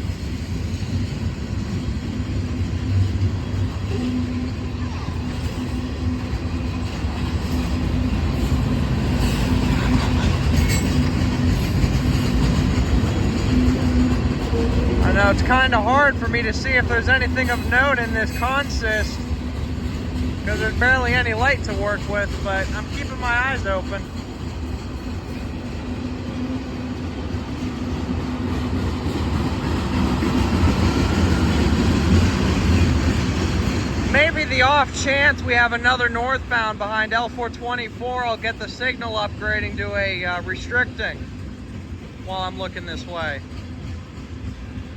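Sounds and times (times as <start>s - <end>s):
freight train rumbling on rails: 0.0s - 44.9s.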